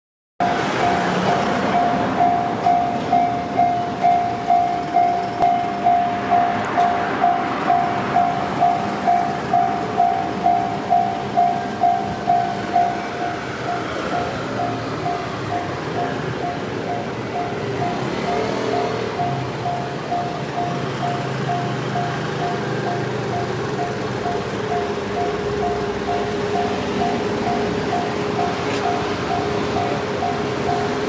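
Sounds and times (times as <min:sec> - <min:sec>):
level crossing alarm ringing: 0:00.4 - 0:31.0.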